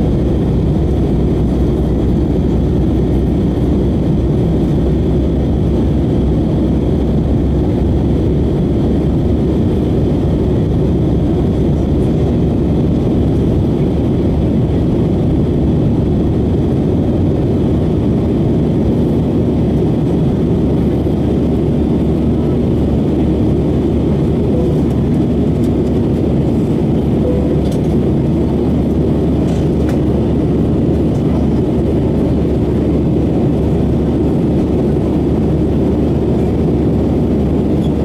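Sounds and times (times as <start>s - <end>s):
jet engine roar in cabin: 0.0s - 38.0s
rushing airflow: 0.0s - 38.0s.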